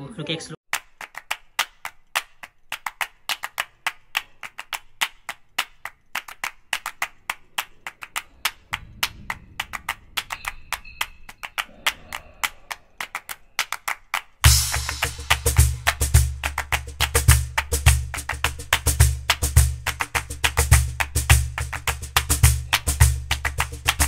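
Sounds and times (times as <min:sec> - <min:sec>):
wood block percussive clicks: 0:00.7 - 0:24.0.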